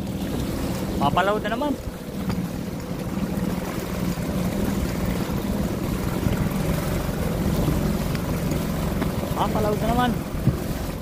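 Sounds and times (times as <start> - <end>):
outboard motor running: 0.0 - 11.0
wind and water rushing: 0.0 - 11.0.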